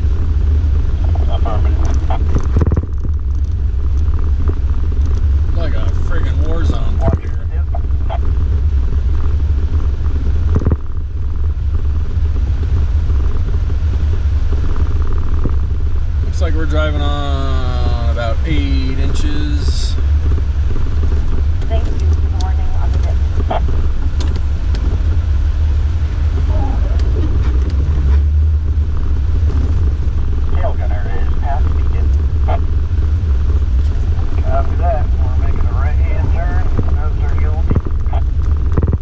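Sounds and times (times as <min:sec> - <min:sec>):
vehicle rumbling through snow: 0:00.0 - 0:39.0.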